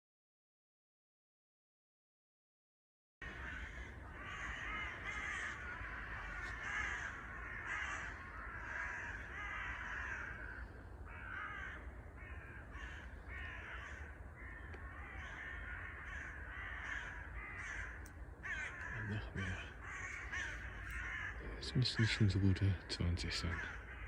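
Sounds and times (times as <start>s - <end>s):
crows cawing: 3.2s - 24.0s.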